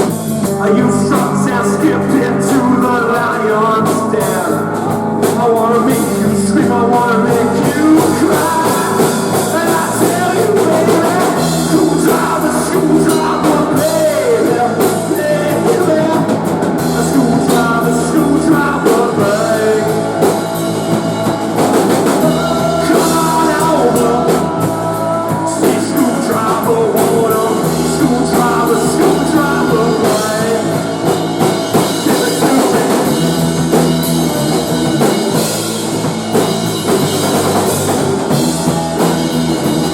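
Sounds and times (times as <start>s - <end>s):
bass guitar line: 0.0s - 39.9s
rock band playing: 0.0s - 39.9s.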